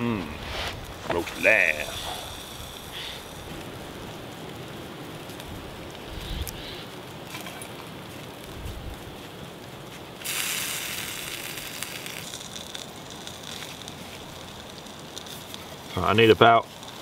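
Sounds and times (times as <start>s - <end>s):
campfire crackling and popping: 0.0s - 17.0s
loud fire hiss: 0.0s - 17.0s.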